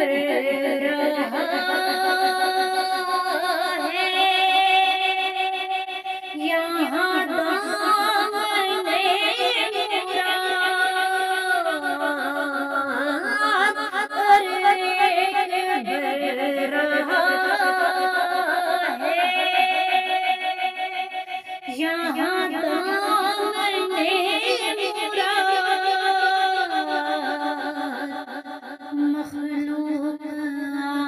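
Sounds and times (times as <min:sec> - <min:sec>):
person singing devotional song: 0:00.0 - 0:31.0.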